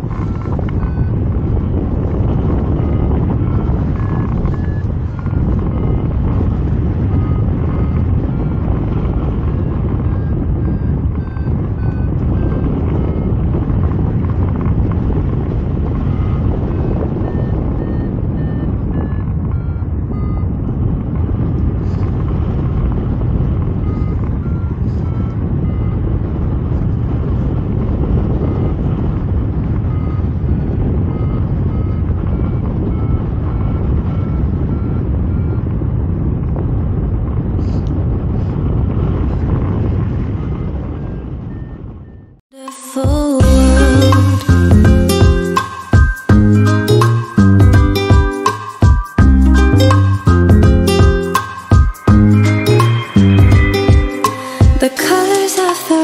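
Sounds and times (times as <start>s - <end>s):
variometer beeping: 0.0s - 37.0s, 38.7s - 42.4s, 43.4s - 55.2s
wind rushing over microphone: 0.0s - 42.4s, 43.1s - 56.0s.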